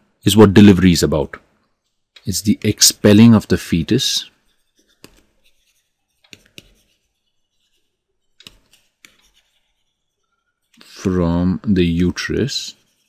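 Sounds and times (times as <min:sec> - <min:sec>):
stylus writing on tablet: 0:01.6 - 0:13.0.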